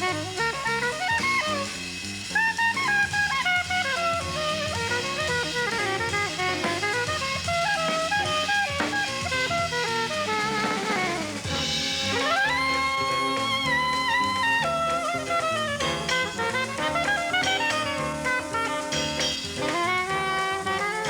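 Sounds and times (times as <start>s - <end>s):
drum kit: 0.0s - 21.0s
saxophone melody: 0.0s - 21.0s.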